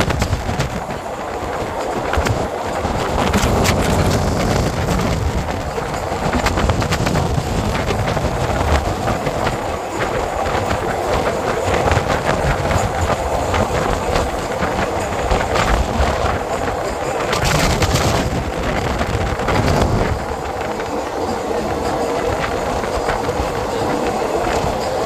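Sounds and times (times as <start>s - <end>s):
train rumbling past: 0.0s - 25.0s
wheel clicks on rails: 0.0s - 25.0s.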